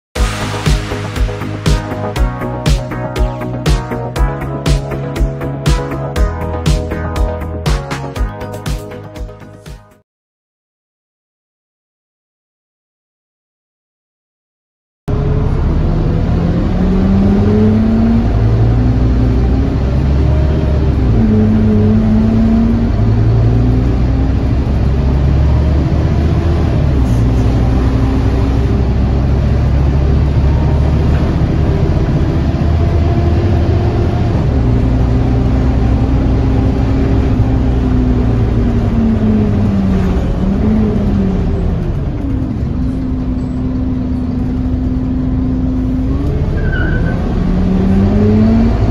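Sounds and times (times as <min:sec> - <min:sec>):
bus diesel engine pulling away: 0:00.2 - 0:10.0, 0:15.1 - 0:48.9.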